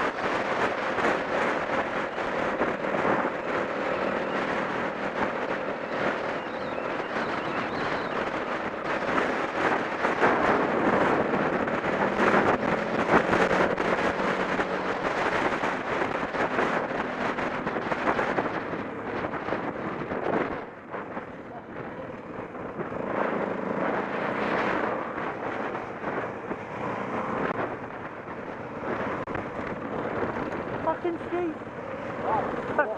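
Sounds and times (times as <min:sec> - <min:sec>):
off-road motorcycle engine: 0:00.0 - 0:32.9
wind buffeting microphone: 0:00.0 - 0:32.9.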